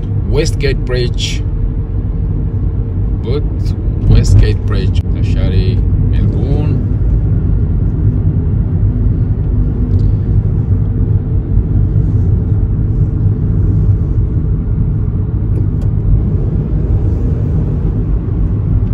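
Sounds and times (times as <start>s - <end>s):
tyre and engine rumble in car cabin: 0.0s - 18.9s.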